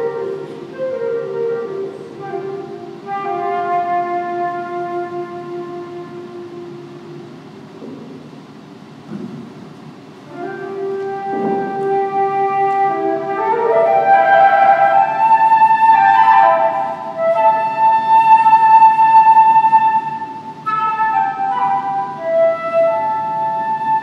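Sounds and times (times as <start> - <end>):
solo flute playing: 0.0 - 7.5, 10.2 - 24.0.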